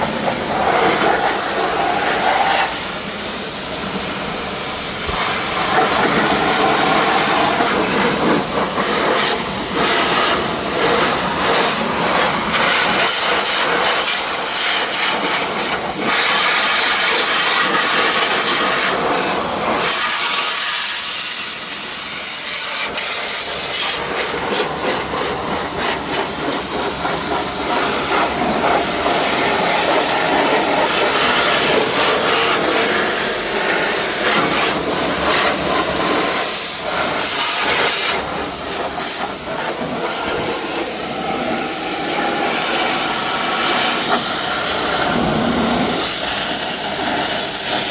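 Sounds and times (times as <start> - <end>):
pressure washer spraying car: 0.0 - 47.9.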